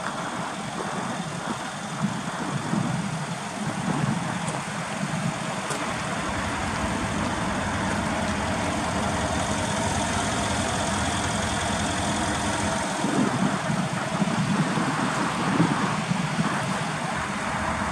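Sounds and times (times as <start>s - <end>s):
car engine idling: 0.0s - 17.9s
faint steady whine: 0.0s - 17.9s.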